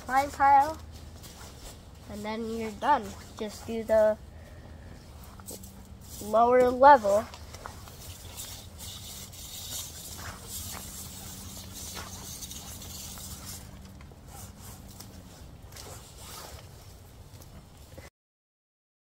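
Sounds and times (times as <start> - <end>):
steady low hum: 0.0 - 18.1
twine scraping through dry stalks: 0.0 - 18.1.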